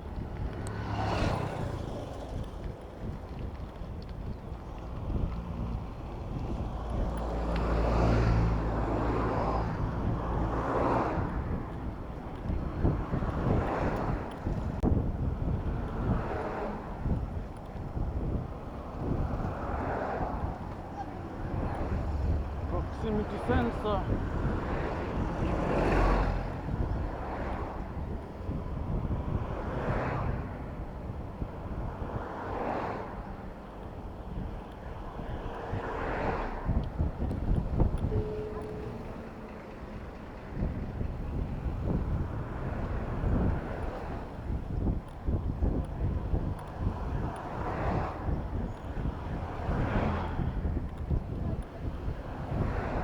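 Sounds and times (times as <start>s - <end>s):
city road traffic: 0.0s - 53.0s
vehicle engine humming: 0.0s - 53.0s
wind rush on microphone: 0.0s - 53.0s.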